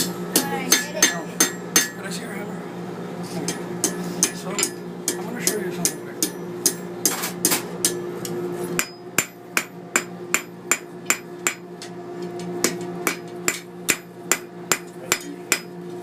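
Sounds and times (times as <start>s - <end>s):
hammer striking iron on anvil: 0.0s - 2.0s, 3.5s - 11.9s, 12.6s - 15.8s
steady hum: 0.0s - 16.0s.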